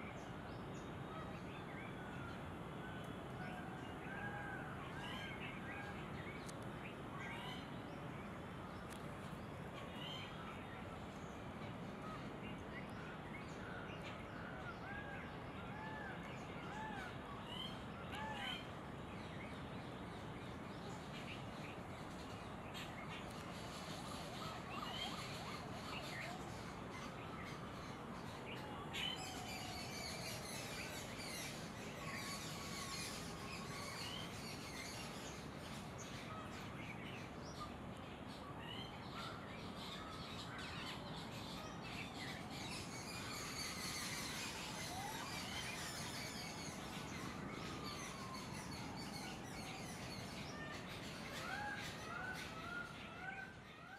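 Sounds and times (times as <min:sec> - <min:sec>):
background hiss: 0:00.0 - 0:53.1.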